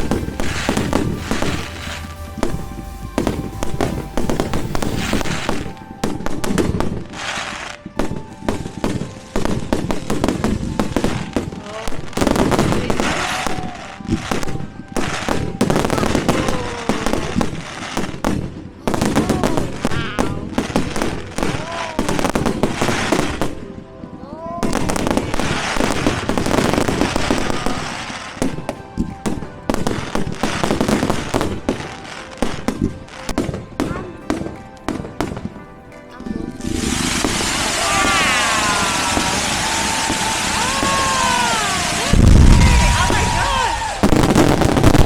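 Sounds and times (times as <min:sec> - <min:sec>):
fireworks bangs and crackles: 0:00.0 - 0:45.0
music playing: 0:00.0 - 0:45.0.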